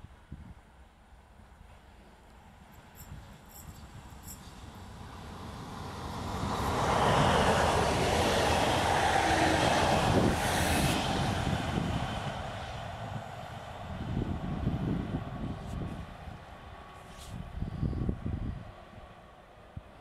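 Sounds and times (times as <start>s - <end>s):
train passing close by: 0.7s - 20.0s.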